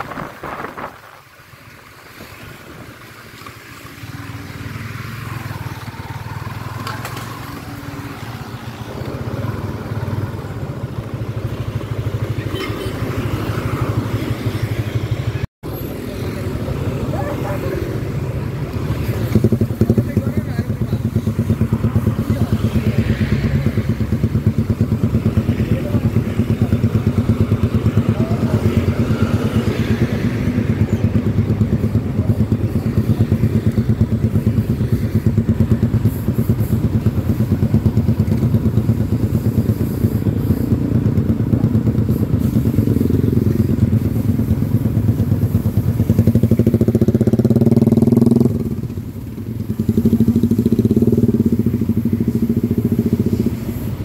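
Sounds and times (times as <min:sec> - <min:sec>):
motorcycle engine revving: 0:02.1 - 0:54.0
motorcycle engine idling: 0:02.6 - 0:15.4, 0:16.2 - 0:54.0.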